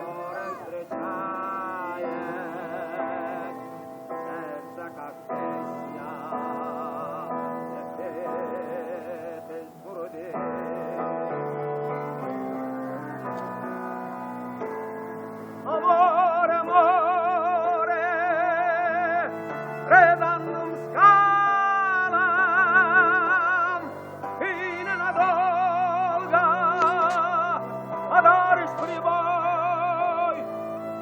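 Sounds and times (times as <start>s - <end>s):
person singing with vibrato: 0.0s - 31.0s
sustained accompaniment: 0.0s - 31.0s.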